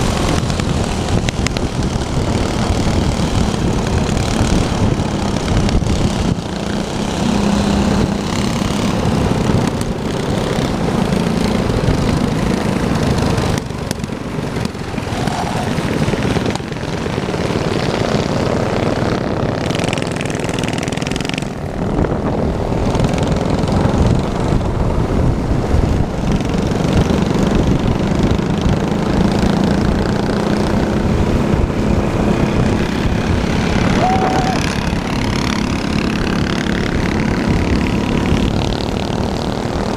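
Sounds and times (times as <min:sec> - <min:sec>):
minibike engines buzzing: 0:00.0 - 0:39.9.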